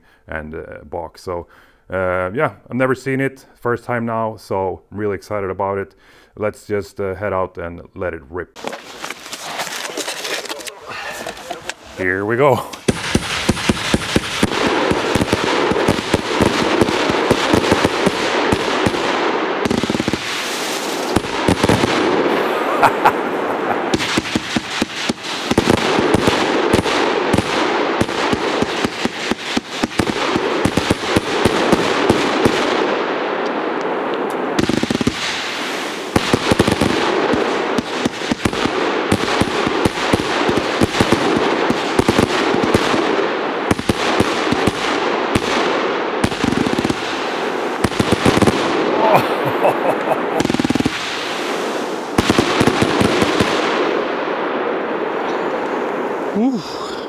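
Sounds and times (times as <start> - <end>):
fireworks firing in rapid volley: 8.5 - 55.2.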